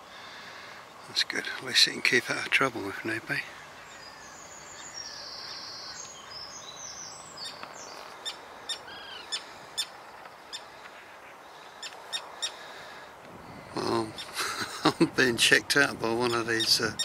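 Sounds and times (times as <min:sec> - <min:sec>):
tern calling: 0:00.0 - 0:15.2, 0:16.1 - 0:17.0.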